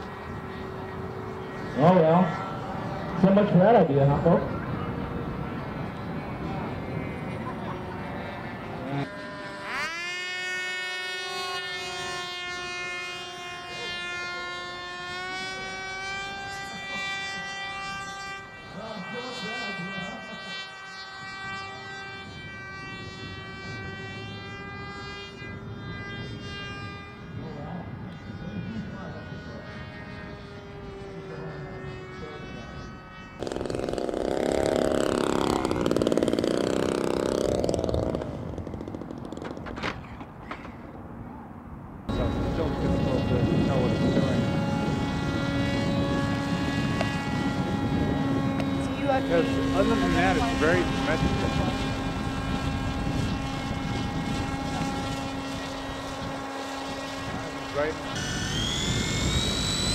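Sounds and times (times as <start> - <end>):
model airplane motor whine: 0.0 - 41.0, 42.1 - 59.9.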